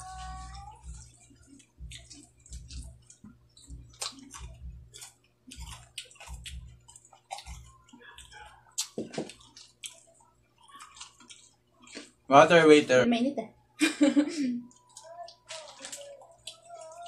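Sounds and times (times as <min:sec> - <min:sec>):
crisp chewing crunches: 0:00.8 - 0:12.2, 0:14.7 - 0:17.0.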